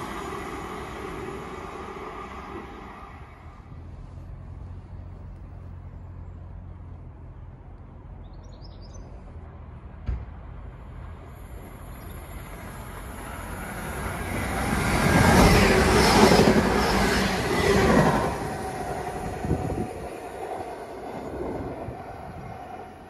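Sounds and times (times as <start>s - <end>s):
diesel train passing: 0.0s - 23.0s.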